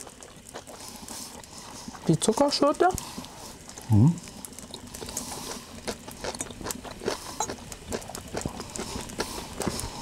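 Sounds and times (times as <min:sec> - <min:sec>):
people chewing: 0:00.0 - 0:10.0.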